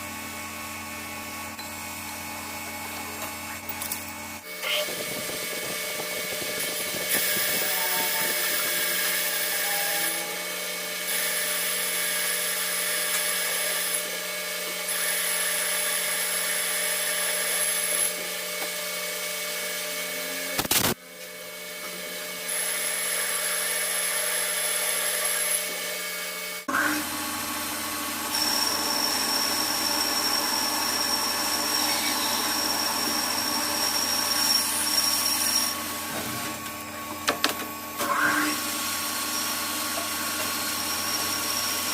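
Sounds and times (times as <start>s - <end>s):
high-pitched machine whines: 0.0s - 41.9s
metal lathe humming: 1.0s - 20.5s, 21.3s - 41.9s.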